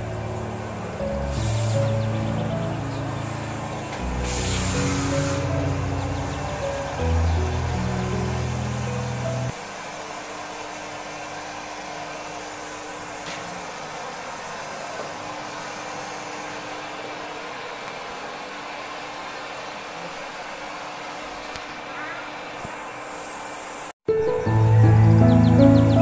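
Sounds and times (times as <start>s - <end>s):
vacuum cleaner running: 0.0s - 21.5s.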